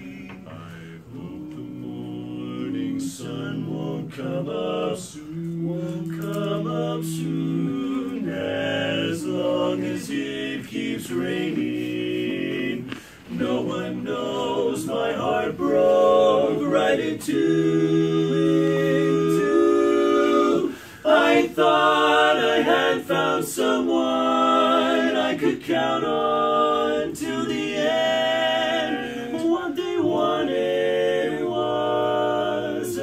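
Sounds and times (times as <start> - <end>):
male quartet singing a cappella: 0.0 - 33.0.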